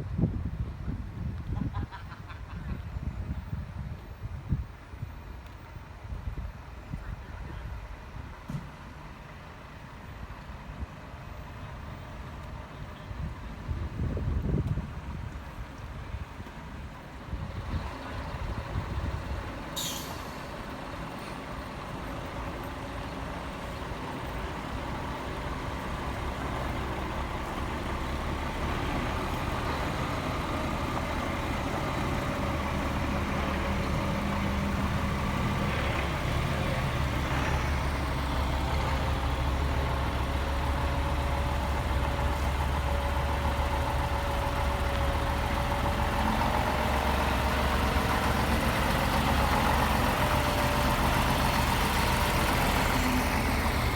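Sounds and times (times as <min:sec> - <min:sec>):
truck diesel engine idling: 0:05.2 - 0:53.9.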